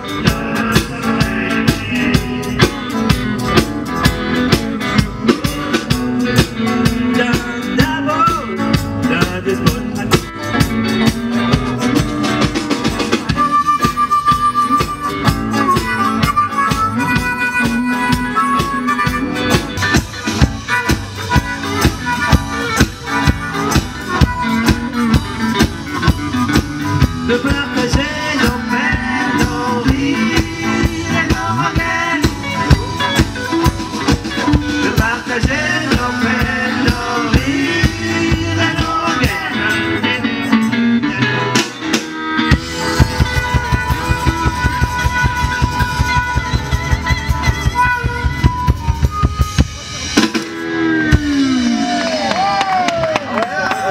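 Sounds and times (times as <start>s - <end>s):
drum kit: 0.0s - 53.9s
electric guitars: 0.0s - 53.9s.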